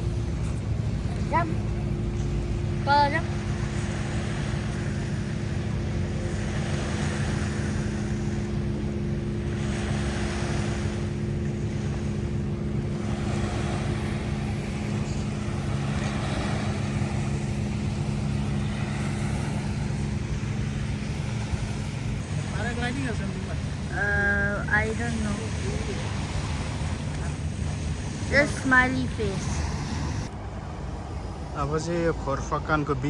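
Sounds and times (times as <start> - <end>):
motor humming: 0.0 - 30.3
wind buffeting microphone: 0.0 - 31.6
waves washing: 0.0 - 33.0.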